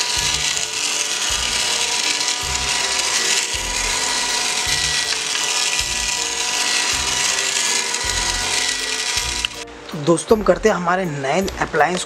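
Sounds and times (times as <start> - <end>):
toy vacuum motor whirring: 0.0 - 9.7
low pulsing notes: 0.0 - 11.9.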